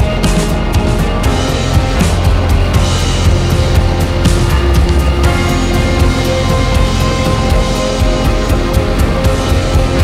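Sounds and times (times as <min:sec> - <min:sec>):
music with fast drum beat: 0:00.0 - 0:10.0.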